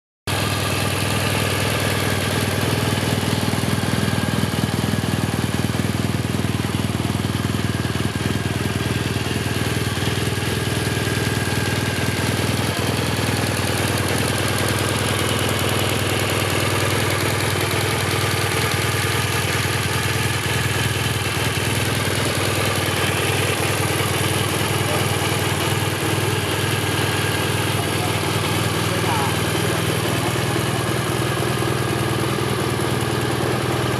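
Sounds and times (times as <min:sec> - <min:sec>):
motorcycle engine idling: 0:00.3 - 0:33.9.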